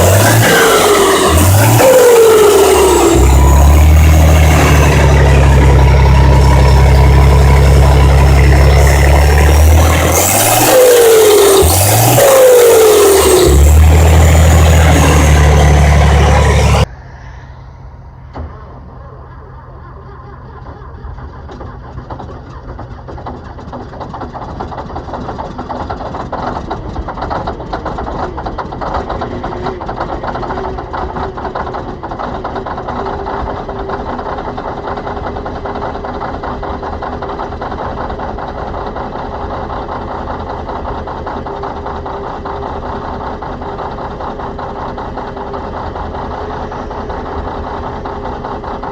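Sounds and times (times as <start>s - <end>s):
loud engine cutting off: 0.0s - 17.2s, 17.8s - 48.9s
diesel engine starting and idling: 0.0s - 48.9s.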